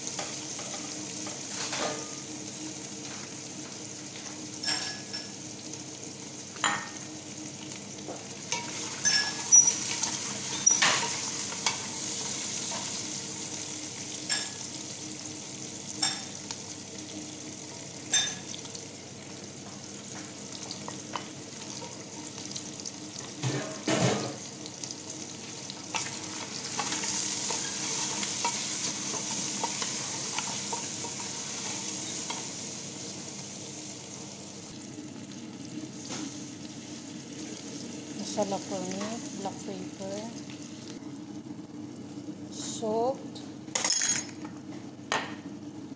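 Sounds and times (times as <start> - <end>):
meat sizzling in a pot: 0.0 - 45.9.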